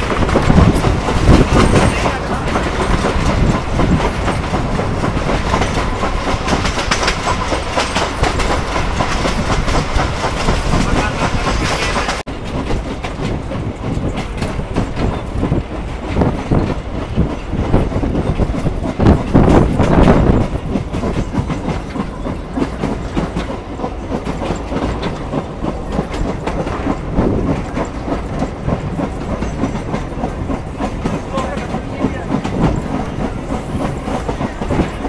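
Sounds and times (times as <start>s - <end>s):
train wheels clickety-clack: 0.0s - 35.0s.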